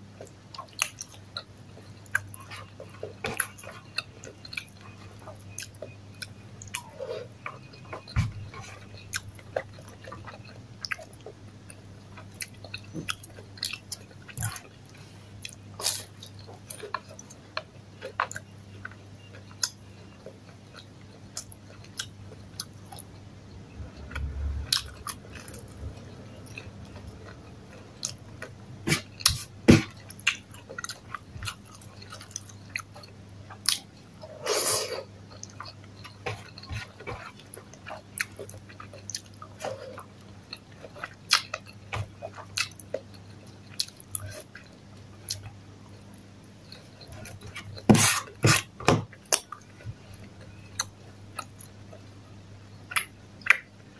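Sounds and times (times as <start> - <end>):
chewing: 0.2 - 23.2, 23.9 - 52.1.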